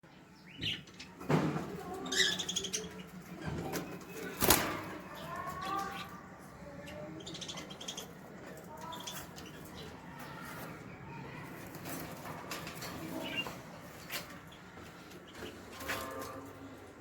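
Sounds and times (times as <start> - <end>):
small birds twittering: 0.0 - 16.0
pigeons warbling: 0.5 - 16.9.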